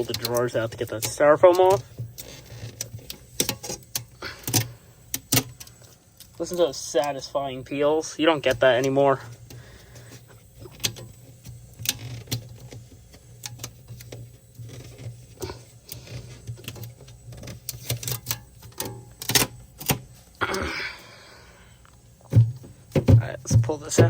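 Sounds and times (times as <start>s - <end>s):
plastic parts clicking and knocking: 0.0s - 6.4s, 8.4s - 20.6s, 21.9s - 24.0s
steady low hum: 0.0s - 24.0s.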